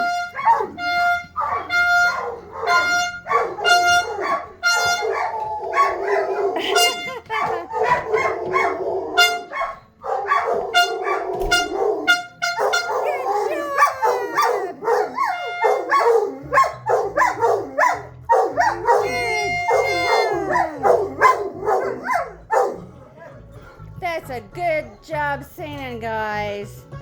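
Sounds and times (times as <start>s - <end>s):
dogs howling and yipping: 0.0s - 23.4s.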